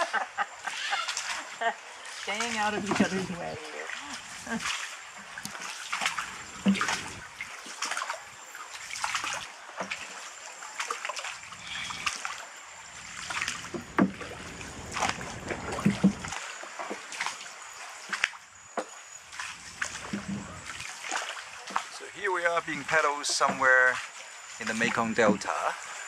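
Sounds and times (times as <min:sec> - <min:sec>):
paddles splashing in water: 0:00.0 - 0:26.0.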